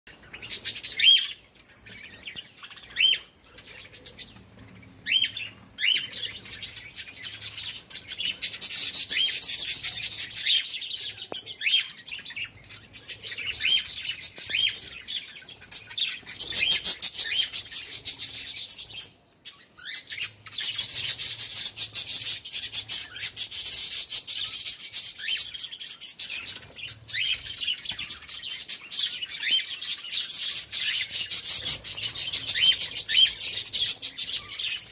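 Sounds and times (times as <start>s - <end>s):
budgerigars chirping: 0.2s - 34.9s.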